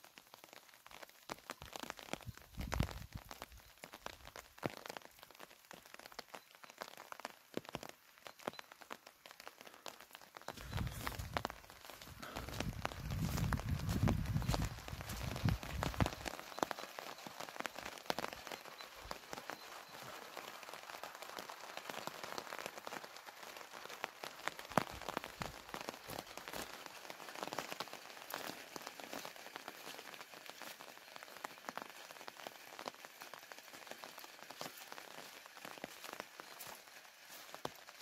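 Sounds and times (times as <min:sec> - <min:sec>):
rain falling steadily: 0:00.0 - 0:38.0
raindrops ticking: 0:00.0 - 0:38.0.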